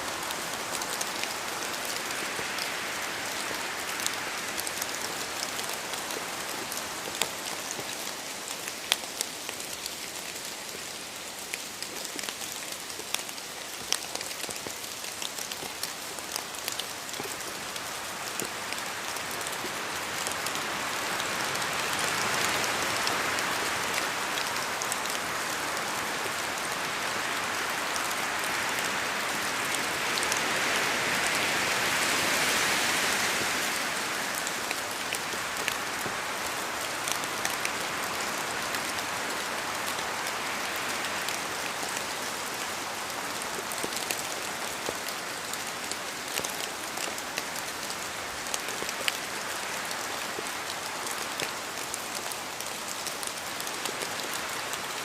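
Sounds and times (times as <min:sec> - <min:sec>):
steady rain in a forest: 0:00.0 - 0:55.0.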